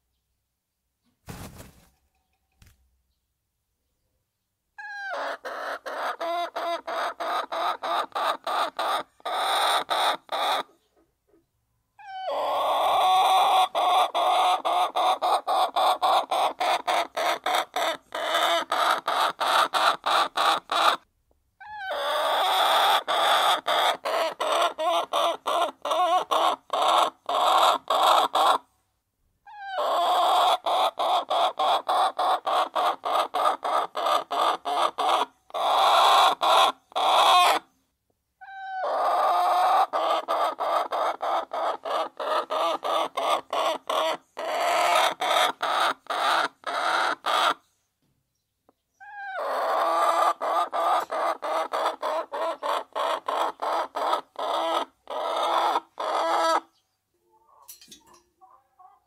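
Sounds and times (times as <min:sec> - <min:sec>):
hens clucking: 0:04.8 - 0:11.4, 0:12.0 - 0:21.0, 0:21.6 - 0:28.7, 0:29.6 - 0:37.7, 0:38.4 - 0:47.6, 0:49.0 - 0:59.0.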